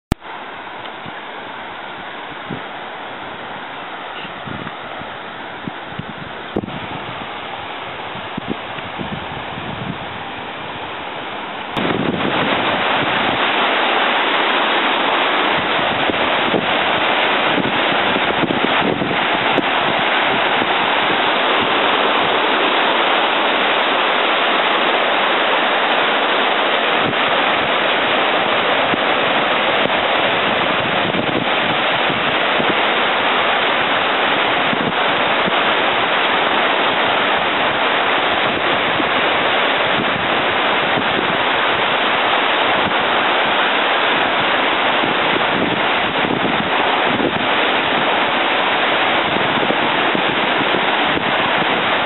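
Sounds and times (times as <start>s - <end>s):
churning whitewater: 0.1s - 52.0s.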